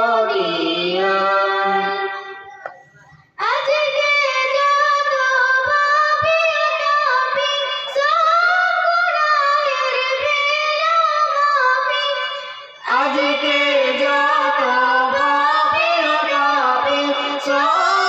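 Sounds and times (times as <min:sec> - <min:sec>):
person singing unaccompanied: 0:00.0 - 0:02.8, 0:03.4 - 0:18.0.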